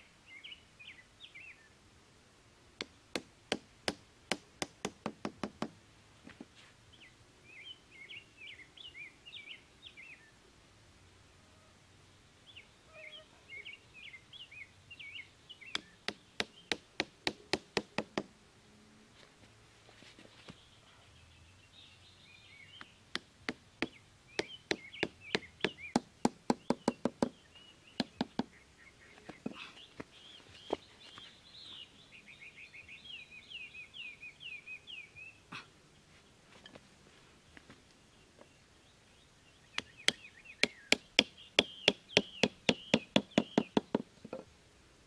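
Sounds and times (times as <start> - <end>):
small birds chirping: 0.0 - 1.8, 6.4 - 10.5, 11.2 - 18.2, 19.8 - 44.5.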